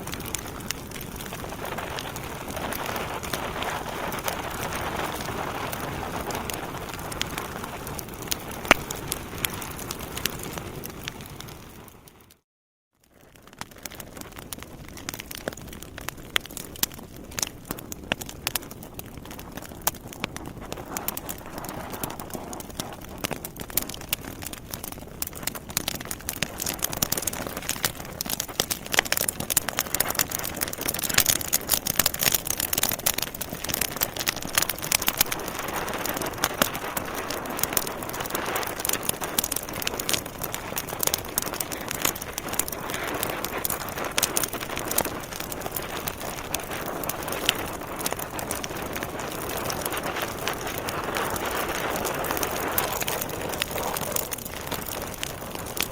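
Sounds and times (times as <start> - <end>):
rush of flame: 0.0 - 12.1, 13.8 - 55.9
logs crackling and popping: 0.0 - 12.4, 13.0 - 55.9.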